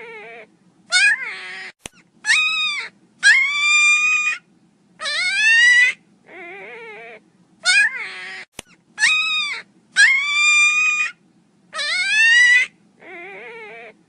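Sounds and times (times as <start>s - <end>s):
puppy whining cries: 0.0s - 4.4s, 5.0s - 14.0s.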